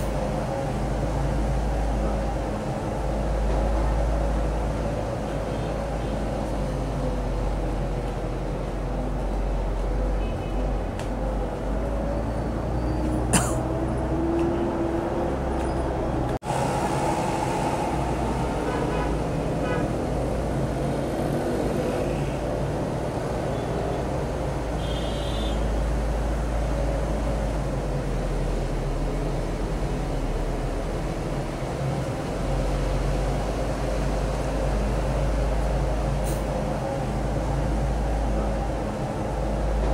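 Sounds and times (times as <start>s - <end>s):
distant city traffic rumble: 0.0s - 39.9s.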